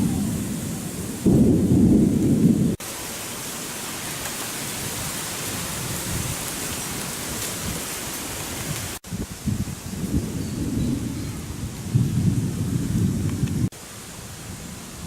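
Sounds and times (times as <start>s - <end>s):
thunder rumble: 0.0s - 2.8s, 4.2s - 13.8s
pouring rain hiss: 0.0s - 15.0s.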